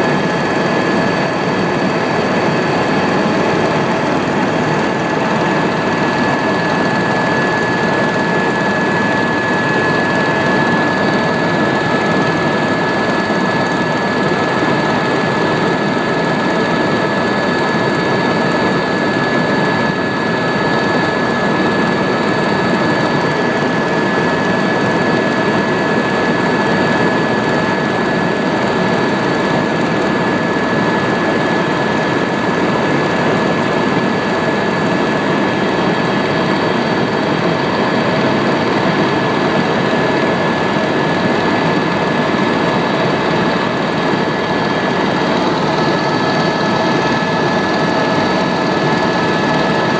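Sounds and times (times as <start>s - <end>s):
helicopter engine and rotors: 0.0s - 49.9s.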